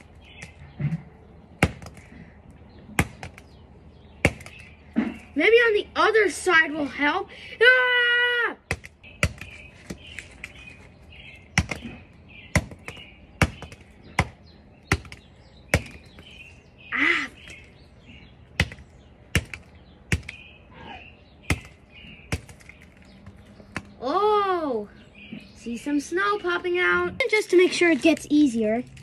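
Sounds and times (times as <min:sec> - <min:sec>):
faint birds chirping: 0:00.0 - 0:29.0.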